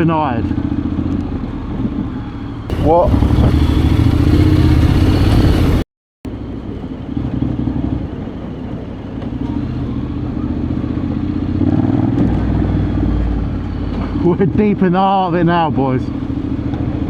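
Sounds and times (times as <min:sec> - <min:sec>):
road noise: 0:00.0 - 0:17.0
motorcycle engine running: 0:00.4 - 0:17.0.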